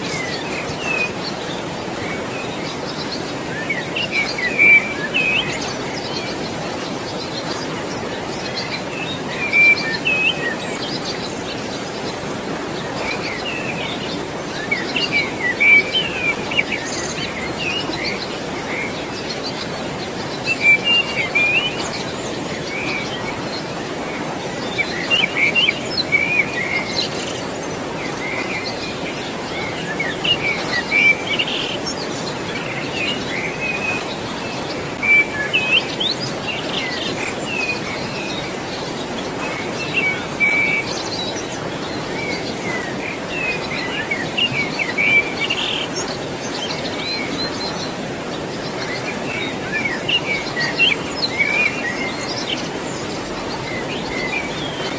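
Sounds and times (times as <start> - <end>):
birds chirping: 0.0 - 54.9
flowing water rushing: 0.0 - 54.9.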